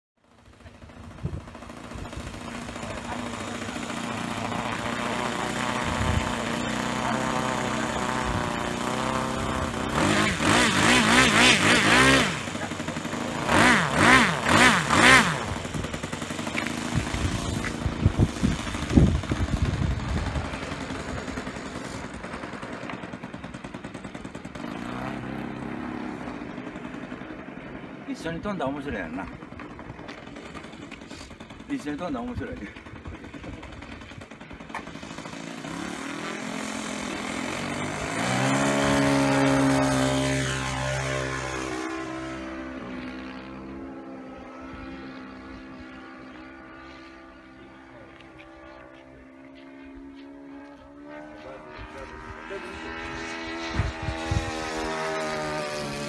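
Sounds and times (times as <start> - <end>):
model plane engine idling and revving: 0.2 - 56.0.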